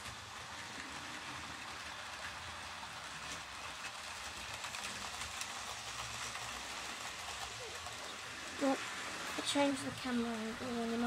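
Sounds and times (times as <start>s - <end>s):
model trains whirring: 0.0s - 11.0s
wheels clicking over rail joints: 0.0s - 11.0s.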